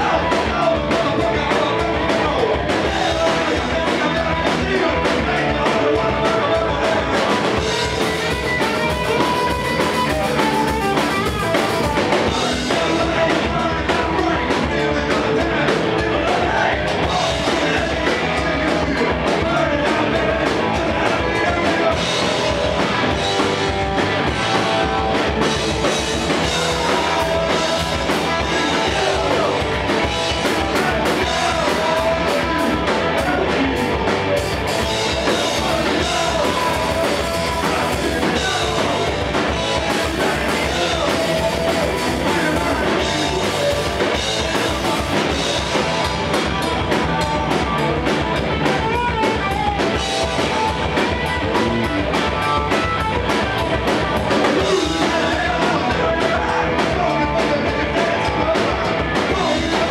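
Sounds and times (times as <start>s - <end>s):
punk rock band playing live: 0.0s - 59.9s.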